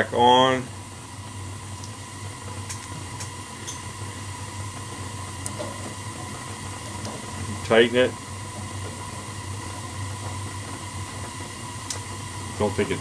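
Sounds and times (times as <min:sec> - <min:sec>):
gas furnace hum and rush: 0:00.0 - 0:13.0.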